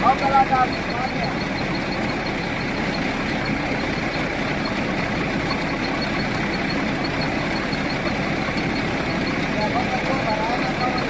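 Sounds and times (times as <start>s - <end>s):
faint high ticking: 0.0s - 11.0s
mill machinery running: 0.0s - 11.0s.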